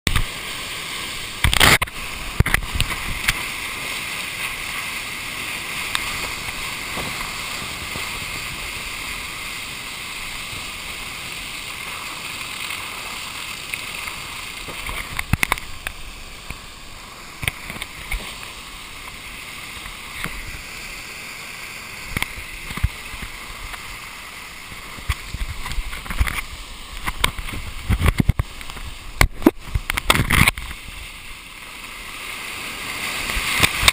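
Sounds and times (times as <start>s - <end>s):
whitewater rushing: 0.1s - 33.9s.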